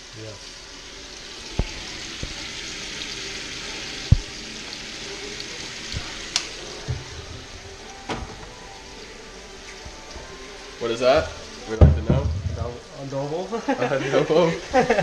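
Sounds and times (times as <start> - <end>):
fish frying in hot oil: 0.0 - 7.9, 8.6 - 15.0.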